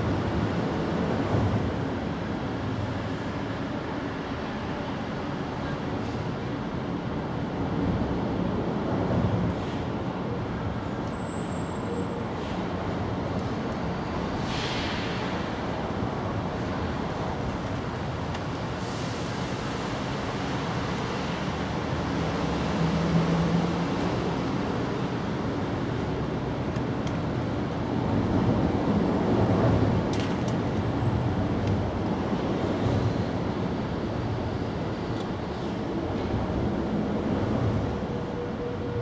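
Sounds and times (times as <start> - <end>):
low rumble of road traffic: 0.0 - 39.0.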